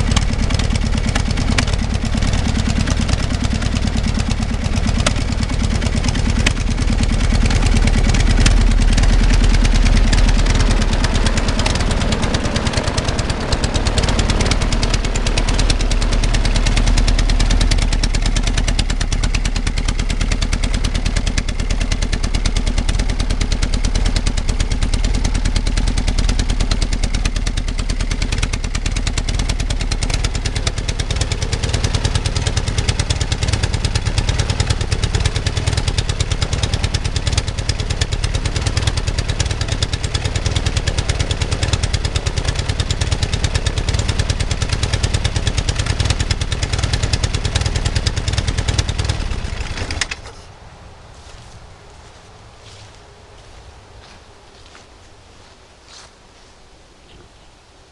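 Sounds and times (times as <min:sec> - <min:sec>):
small aircraft engine running: 0:00.0 - 0:56.2.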